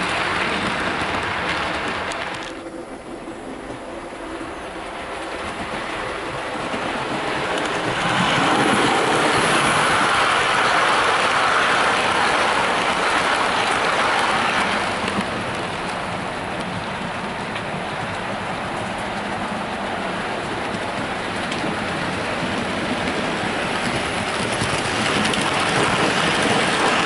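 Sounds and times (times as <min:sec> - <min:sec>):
model train running past: 0:00.0 - 0:27.0.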